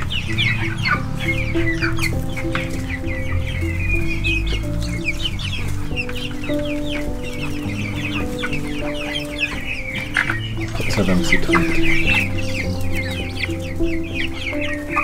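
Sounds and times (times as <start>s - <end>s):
background music: 0.0s - 15.0s
chicks peeping: 0.0s - 15.0s.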